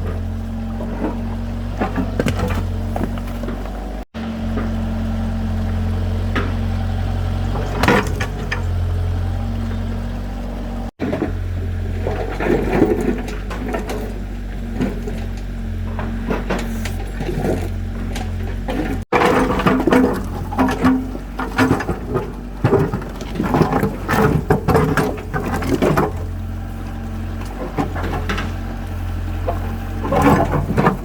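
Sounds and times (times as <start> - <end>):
knocks and clatter: 0.0 - 5.0, 7.4 - 9.2, 11.0 - 31.0
heavy machine engine humming: 0.0 - 31.0.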